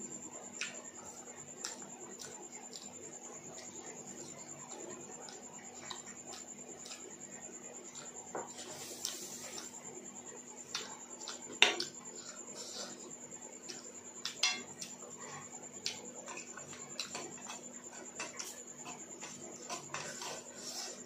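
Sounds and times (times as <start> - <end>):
soft eating sounds: 0.1 - 21.0.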